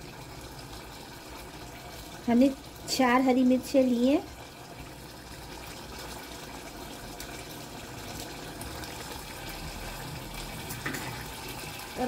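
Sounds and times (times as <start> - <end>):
gravy simmering and bubbling: 0.0 - 12.0.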